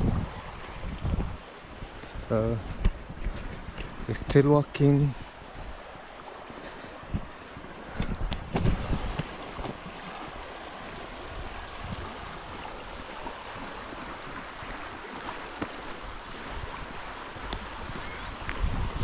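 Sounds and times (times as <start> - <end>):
river water rushing: 0.0 - 2.8, 3.7 - 19.0
wind buffeting microphone: 0.0 - 19.0.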